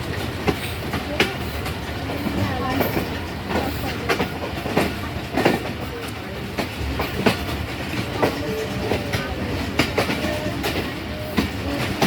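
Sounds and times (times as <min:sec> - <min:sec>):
train carriage rumble: 0:00.0 - 0:12.0
train wheels clicking over rail joints: 0:00.0 - 0:12.0.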